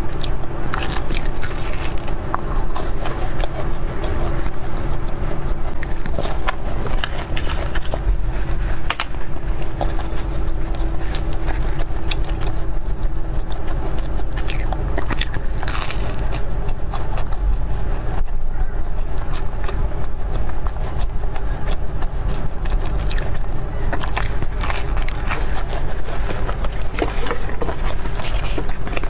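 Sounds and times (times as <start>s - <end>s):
low rumble: 0.0s - 29.0s
pastry crackling when chewed: 0.0s - 29.0s.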